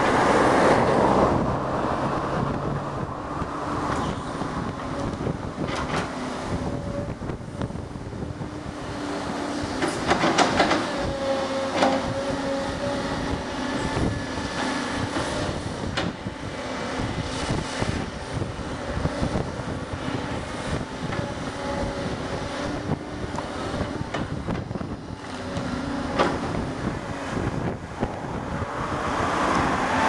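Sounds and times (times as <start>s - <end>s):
engine drone: 0.0s - 30.0s
wind gusts on microphone: 0.0s - 30.0s.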